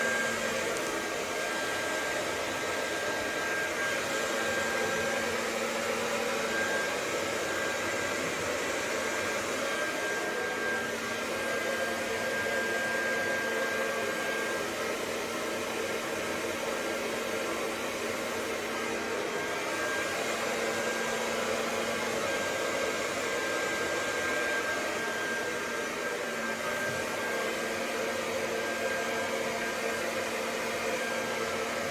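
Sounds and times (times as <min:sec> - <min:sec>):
hair dryer running: 0:00.0 - 0:31.9.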